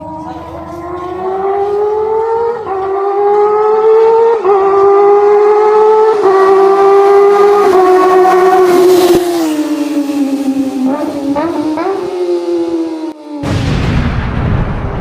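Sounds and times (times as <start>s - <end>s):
motorcycle engine accelerating: 0.0s - 13.8s.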